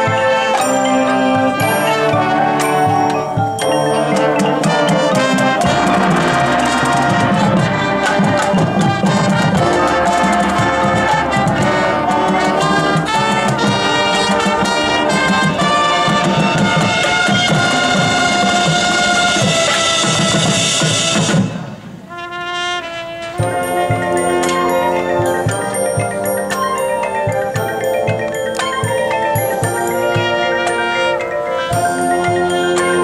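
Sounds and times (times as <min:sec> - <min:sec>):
marching band playing: 0:00.0 - 0:33.0.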